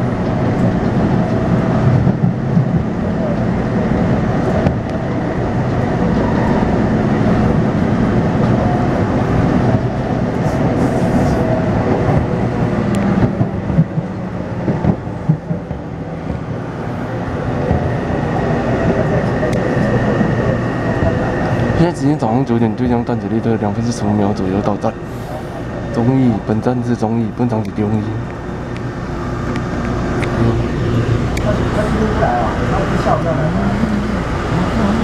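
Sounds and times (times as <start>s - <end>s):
traction inverter tones: 0.0s - 35.0s
train wheels rumbling on rails: 0.0s - 35.0s.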